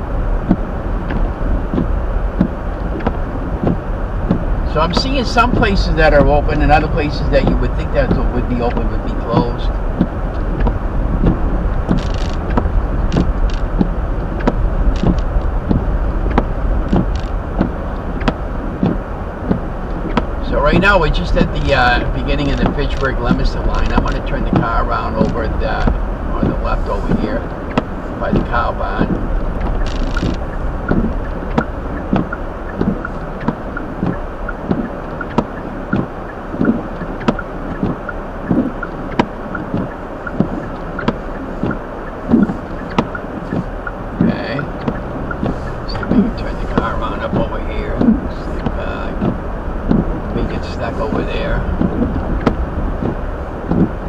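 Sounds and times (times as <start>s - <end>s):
turn signal ticking: 0.0s - 54.0s
tyres and engine rumble: 0.0s - 54.0s.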